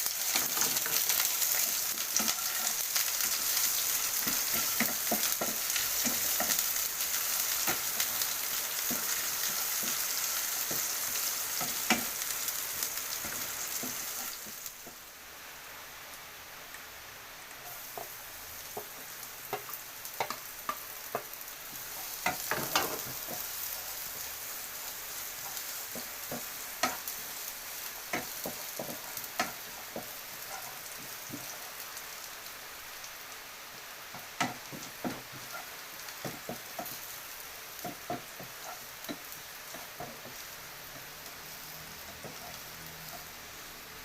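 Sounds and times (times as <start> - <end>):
food sizzling in a pan: 0.0 - 44.0.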